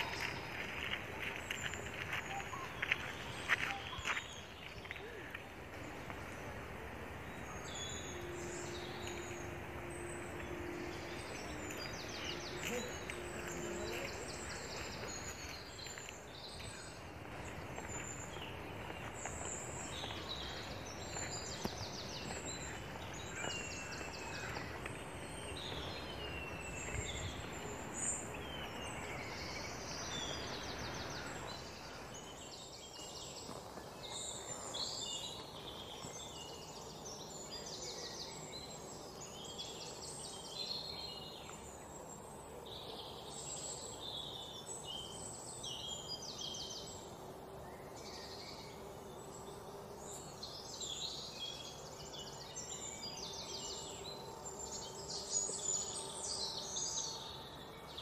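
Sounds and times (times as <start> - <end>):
birds chirping and trilling: 0.0 - 58.0
outdoor background noise: 0.0 - 58.0.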